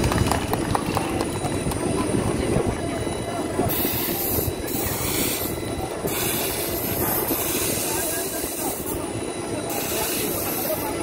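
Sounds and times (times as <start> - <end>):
faint voices: 0.0 - 11.0
rushing mechanical noise: 0.0 - 11.0.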